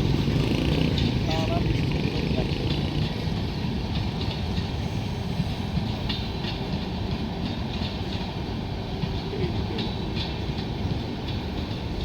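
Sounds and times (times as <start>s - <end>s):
low train rumble: 0.0s - 12.0s
train wheels clattering over joints: 0.0s - 12.0s.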